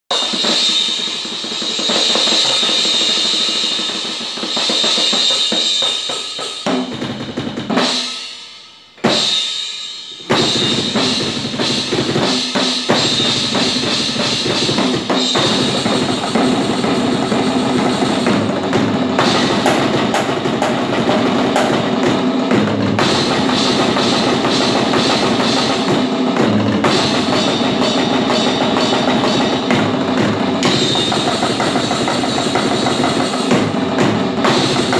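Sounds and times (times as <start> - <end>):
drum kit played hard: 0.1 - 34.9.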